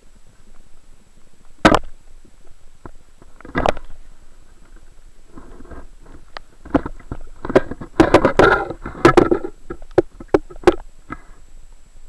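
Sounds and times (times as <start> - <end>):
underwater gurgling and knocks: 1.5 - 11.3.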